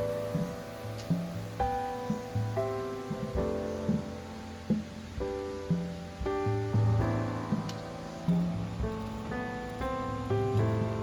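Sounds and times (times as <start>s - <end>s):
slow plucked string melody: 0.0s - 11.0s.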